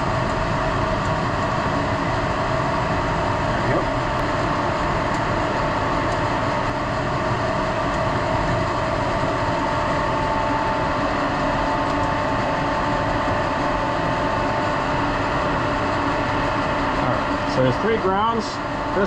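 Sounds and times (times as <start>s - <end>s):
industrial machinery drone: 0.0s - 19.0s.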